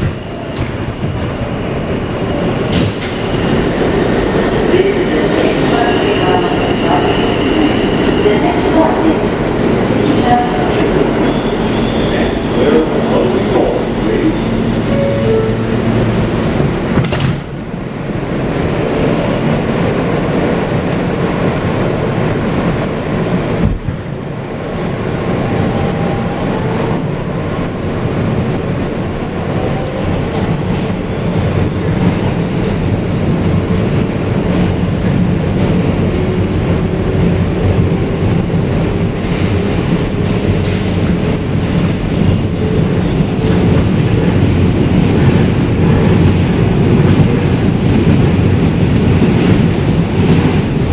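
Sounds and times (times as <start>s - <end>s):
train wheels rumbling on track: 0.0s - 50.9s.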